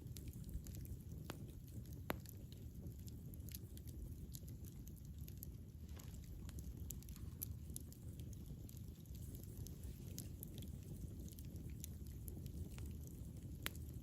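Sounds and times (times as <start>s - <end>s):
low rumble of flame: 0.0s - 14.0s
wood crackling and popping: 0.0s - 14.0s.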